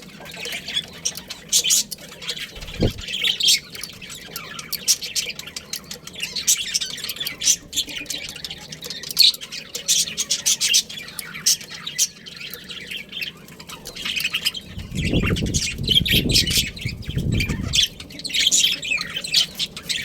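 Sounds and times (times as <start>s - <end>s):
budgerigars chirping: 0.2s - 20.0s.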